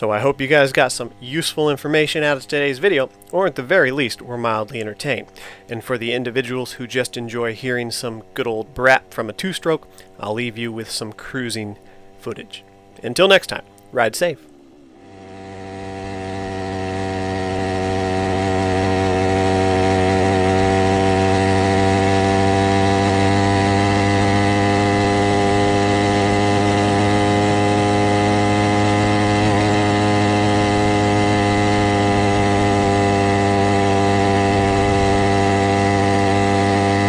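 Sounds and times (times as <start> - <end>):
two-stroke engine cruising: 0.0 - 37.0.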